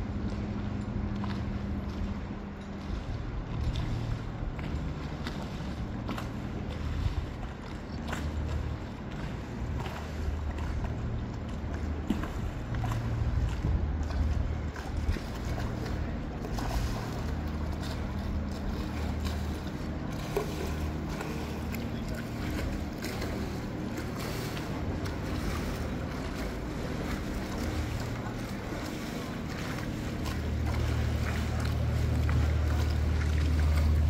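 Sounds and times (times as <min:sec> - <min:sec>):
low engine drone: 0:00.0 - 0:34.0
water noise: 0:00.0 - 0:34.0
wind: 0:00.0 - 0:34.0.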